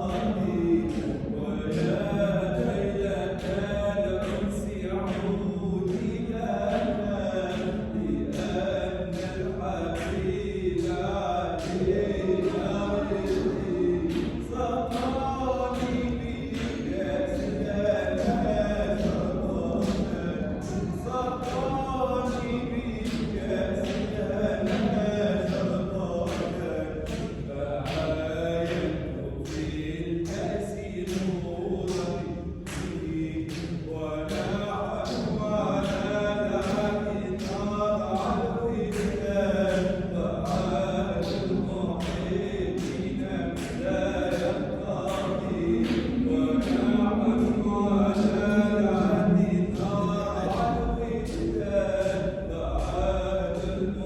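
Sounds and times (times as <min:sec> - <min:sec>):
group chanting: 0:00.0 - 0:54.0.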